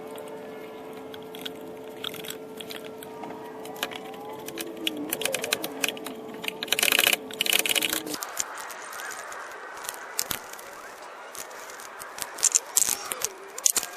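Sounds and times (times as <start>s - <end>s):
hand tools clicking and rattling: 0.0s - 13.9s
steady background hum: 0.0s - 13.9s.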